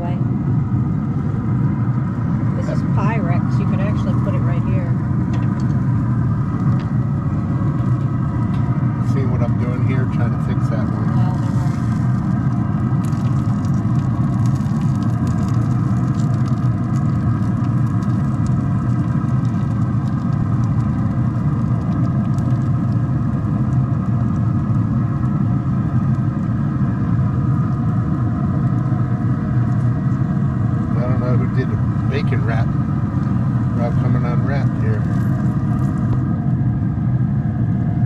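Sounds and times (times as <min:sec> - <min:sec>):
constant hum: 0:00.0 - 0:38.0
low rumble: 0:00.0 - 0:38.0.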